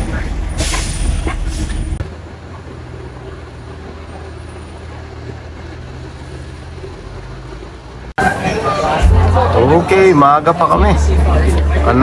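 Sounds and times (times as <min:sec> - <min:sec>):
bus interior rumble: 0:00.0 - 0:12.0
roadside traffic noise: 0:00.0 - 0:12.0
vehicle engines humming: 0:00.0 - 0:12.0.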